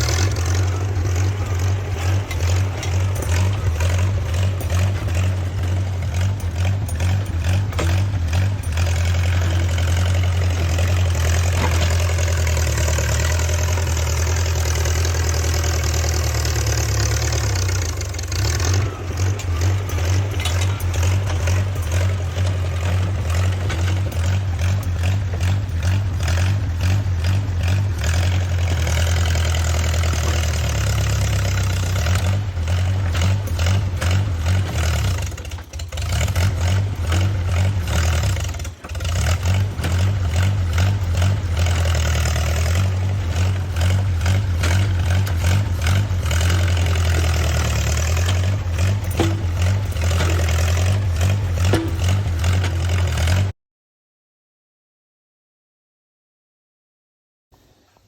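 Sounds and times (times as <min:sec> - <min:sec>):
rapid clattering: 0:00.0 - 0:53.4
bulldozer engine running: 0:00.0 - 0:53.5.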